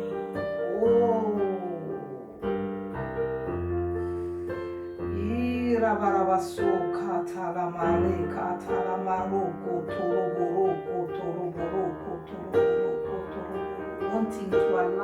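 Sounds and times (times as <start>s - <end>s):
worship music on keyboard: 0.0s - 15.0s.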